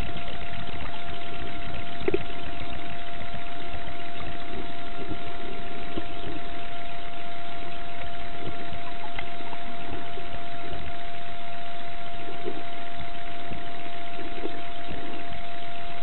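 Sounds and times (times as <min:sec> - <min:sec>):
thin whine: 0:00.0 - 0:16.0.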